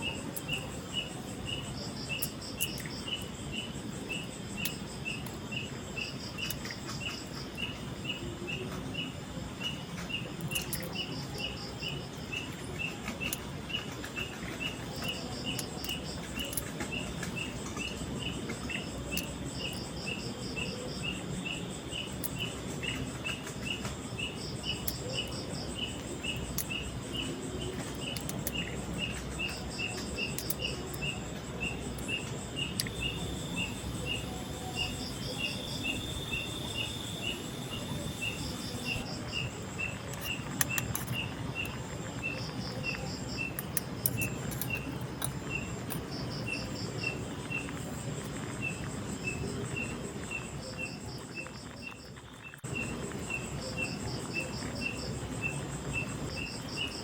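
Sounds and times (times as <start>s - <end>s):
insect chirping: 0.0s - 57.0s
insect pulsed trills: 0.0s - 57.0s
steady background hiss: 0.0s - 57.0s.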